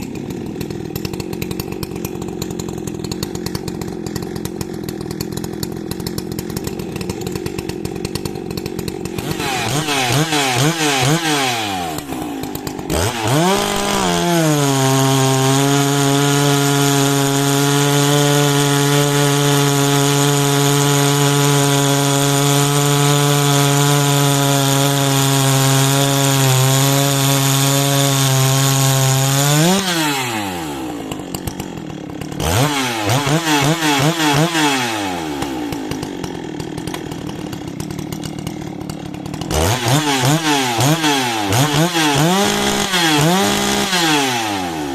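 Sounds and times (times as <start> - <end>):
chainsaw revving and cutting log: 0.0 - 44.9.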